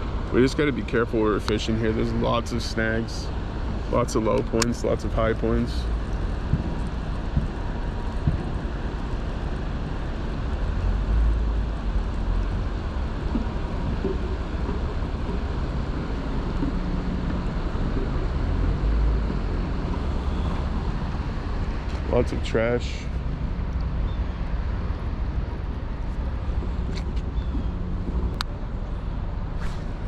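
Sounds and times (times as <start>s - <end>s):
steady rushing noise: 0.0s - 30.0s
wind buffeting microphone: 0.0s - 30.0s.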